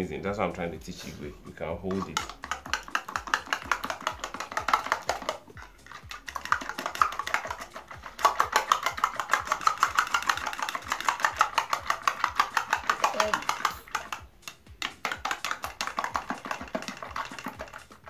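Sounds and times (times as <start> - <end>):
spoon beating eggs in bowl: 0.0 - 18.0.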